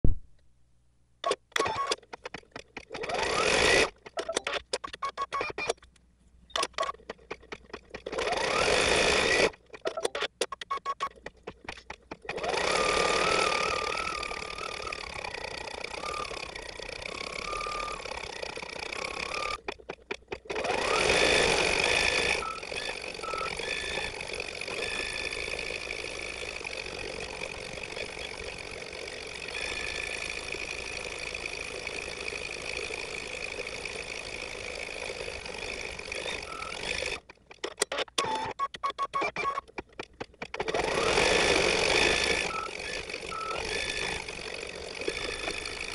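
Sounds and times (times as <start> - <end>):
embroidery machine whirring: 1.5 - 5.7, 6.5 - 38.5, 39.2 - 45.9.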